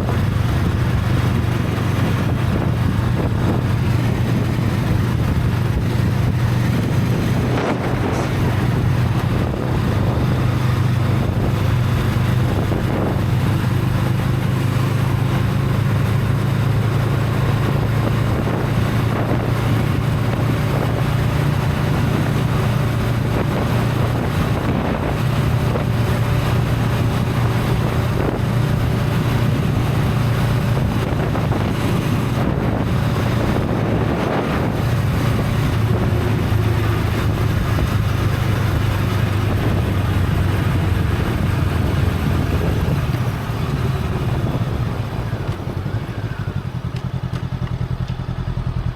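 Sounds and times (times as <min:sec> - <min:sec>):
wind on microphone: 0:00.0 - 0:47.3
motorcycle engine cruising: 0:00.0 - 0:48.9.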